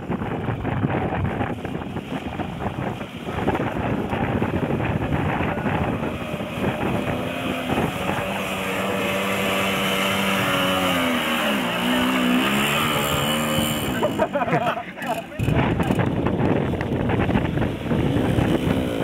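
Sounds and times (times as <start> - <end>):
two-stroke moped engine: 0.2 - 19.0.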